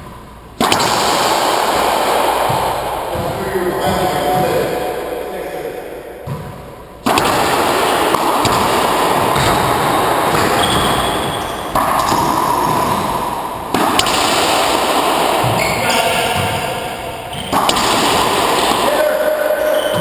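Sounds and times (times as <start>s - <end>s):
racquetball cracking off walls: 0.6s - 4.8s, 6.2s - 20.0s.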